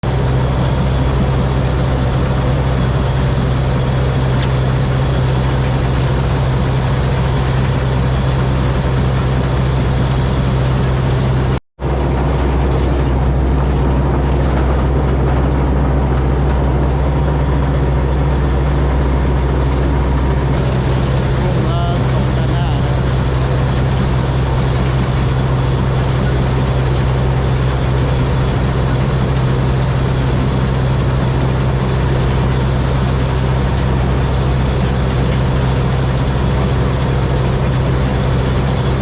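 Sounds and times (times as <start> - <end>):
combine harvester engine droning: 0.0 - 39.0.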